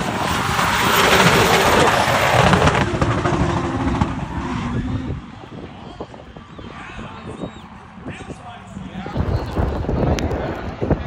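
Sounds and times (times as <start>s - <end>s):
car engines at high revs: 0.0s - 11.0s.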